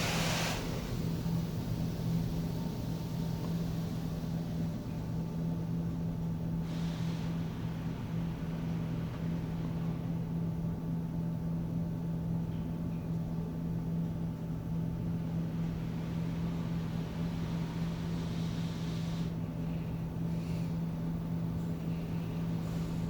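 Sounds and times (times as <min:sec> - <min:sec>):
faint hiss: 0:00.0 - 0:10.4, 0:14.9 - 0:23.0
car wash equipment humming: 0:00.0 - 0:23.0.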